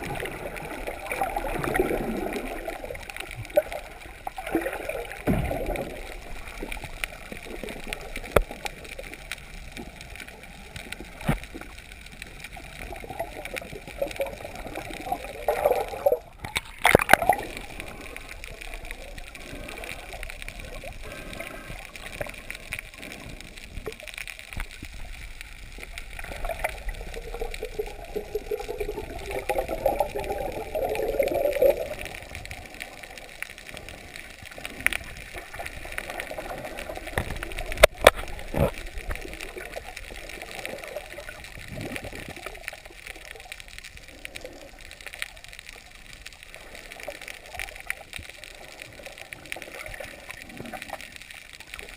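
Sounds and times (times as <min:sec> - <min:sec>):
water gurgling and bubbling: 0:00.0 - 0:43.5
muffled underwater rush: 0:00.0 - 0:51.9.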